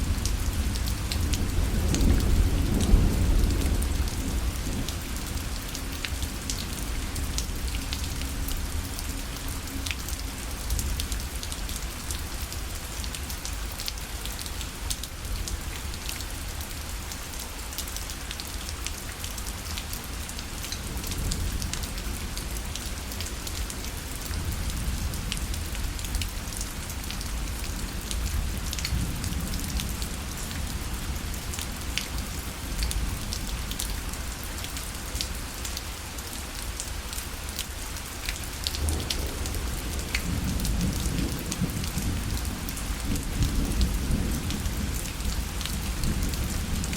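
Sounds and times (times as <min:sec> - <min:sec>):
rain pattering on a parasol: 0:00.0 - 0:46.9.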